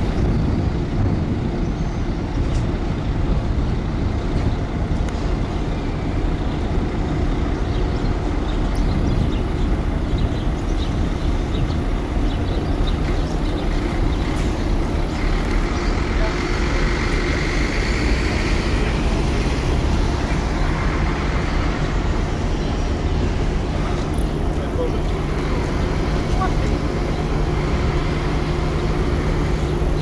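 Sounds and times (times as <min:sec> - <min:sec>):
ship diesel engines rumbling: 0:00.0 - 0:30.0.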